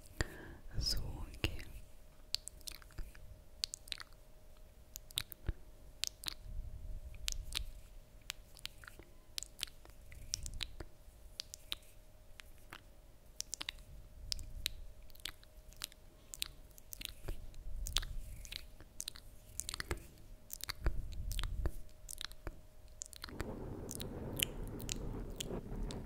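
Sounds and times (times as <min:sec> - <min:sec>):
wet mouth clicks and smacks: 0:02.3 - 0:04.2, 0:04.9 - 0:06.5, 0:07.1 - 0:26.0.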